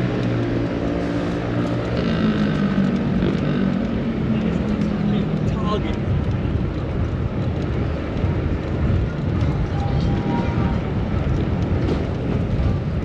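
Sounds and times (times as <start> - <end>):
city street traffic: 0.0 - 13.0
wind buffeting microphone: 0.0 - 13.0.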